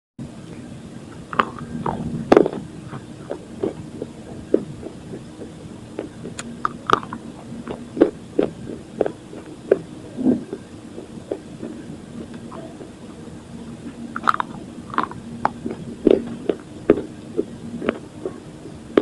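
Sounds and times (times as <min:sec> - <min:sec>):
steady low hum: 0:00.2 - 0:19.0
chewing crunchy chalk: 0:01.3 - 0:13.0, 0:13.9 - 0:19.0.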